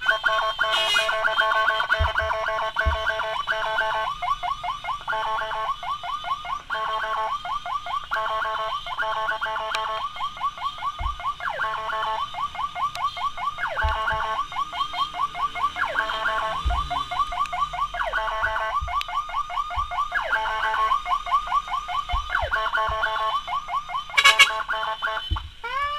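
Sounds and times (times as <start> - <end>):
electronic siren blare and yelp: 0.0 - 25.9
sliding siren tone: 0.0 - 25.9.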